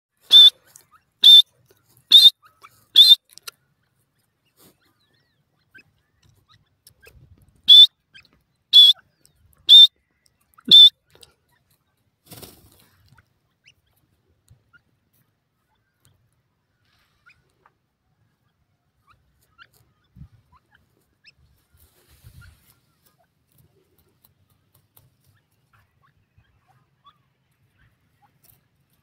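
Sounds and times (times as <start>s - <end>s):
young bird peeping: 0.2s - 29.0s.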